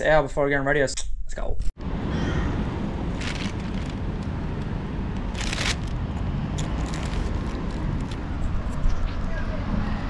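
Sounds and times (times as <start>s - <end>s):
low rumble of road traffic: 1.8s - 10.0s.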